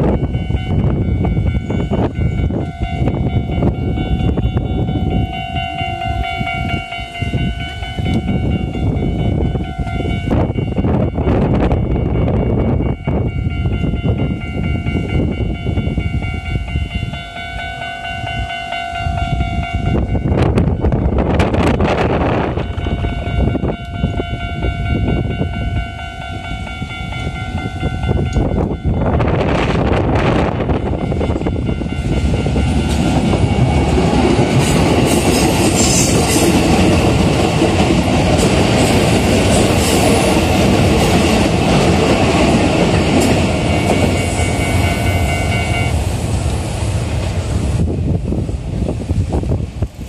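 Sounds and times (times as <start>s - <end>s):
level-crossing warning bell: 0.0s - 46.4s
electric train rumble: 0.0s - 50.0s.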